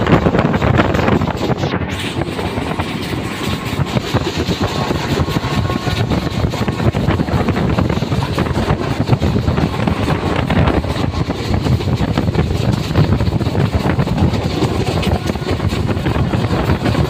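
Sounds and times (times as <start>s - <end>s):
train carriage rattling: 0.0s - 17.0s
train wheels rumbling on rails: 0.0s - 17.0s
wind buffeting microphone: 0.0s - 17.0s.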